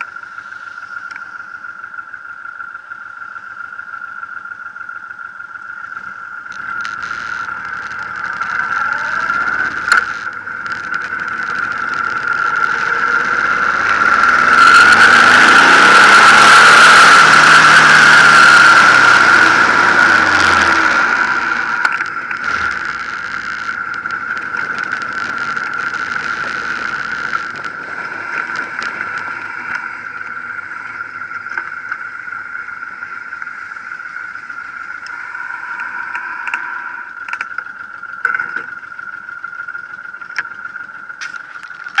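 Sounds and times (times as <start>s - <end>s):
high-pitched whine: 0.0s - 42.0s
motorcycle engine slowing: 0.0s - 42.0s.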